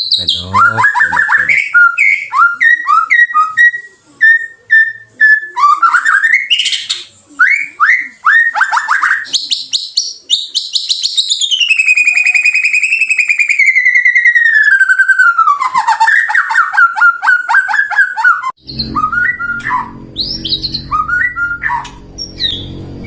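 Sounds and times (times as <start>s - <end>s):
bird whistling song: 0.0s - 22.8s.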